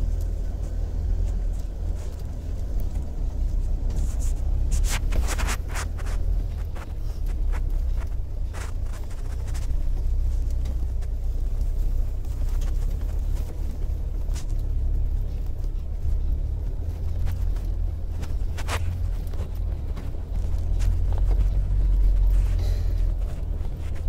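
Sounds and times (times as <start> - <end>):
vehicle driving rumble inside cabin: 0.0 - 24.0.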